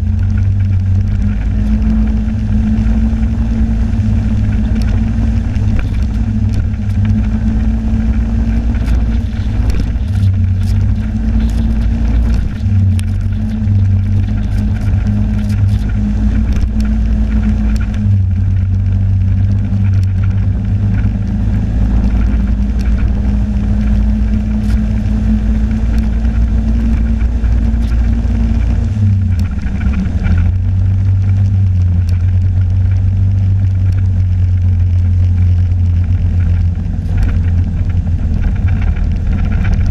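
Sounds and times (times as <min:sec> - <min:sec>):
snowmobile engine droning: 0:00.0 - 0:39.9.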